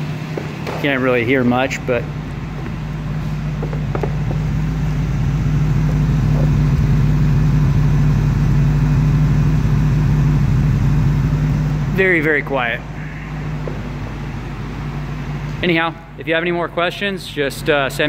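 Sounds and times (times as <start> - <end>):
car exhaust idling hum: 0.0 - 18.0.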